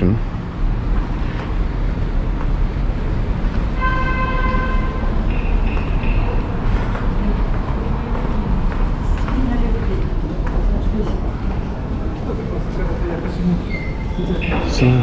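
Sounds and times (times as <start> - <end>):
city traffic noise: 0.0 - 15.0.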